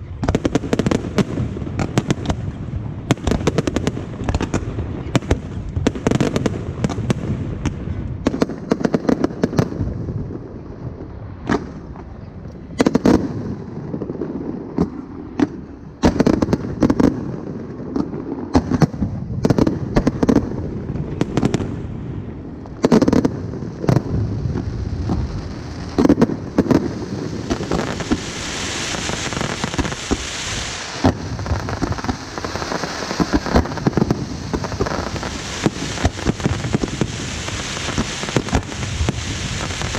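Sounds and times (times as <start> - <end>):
crackling hiss of fireworks: 0.0 - 39.9
fireworks bursting with loud bangs: 0.0 - 39.9.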